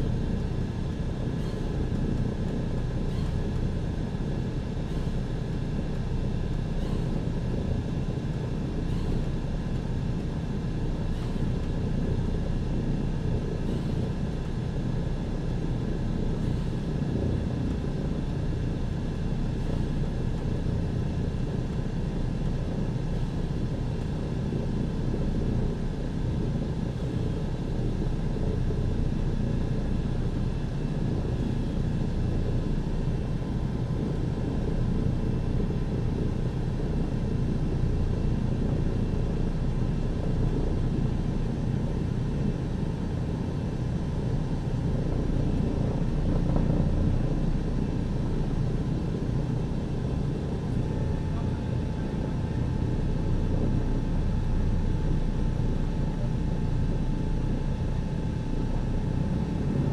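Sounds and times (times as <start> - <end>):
propeller engines rumbling: 0.0 - 59.9.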